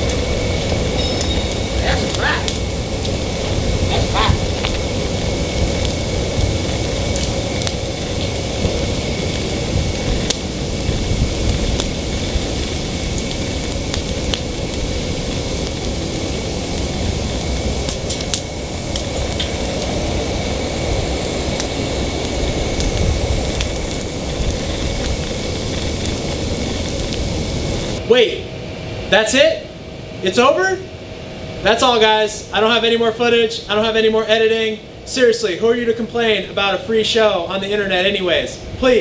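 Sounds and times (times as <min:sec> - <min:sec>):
open fire crackling: 0:00.0 - 0:39.0.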